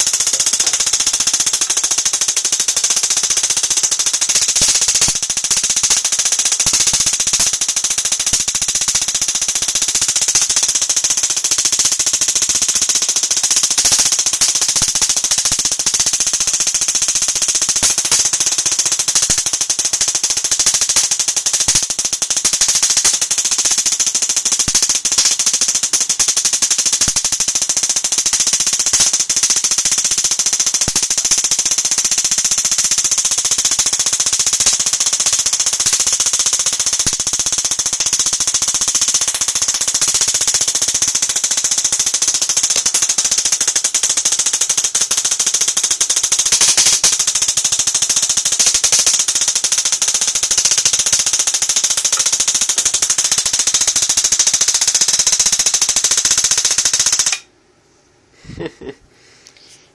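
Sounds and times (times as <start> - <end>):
high-voltage sparks crackling: 0.0 - 57.4.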